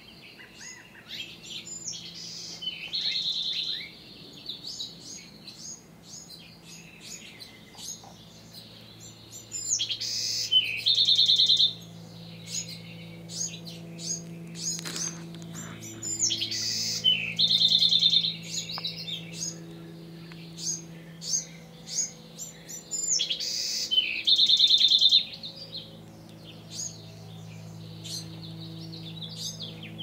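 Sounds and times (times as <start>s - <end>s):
bird chirps: 0.0s - 30.0s.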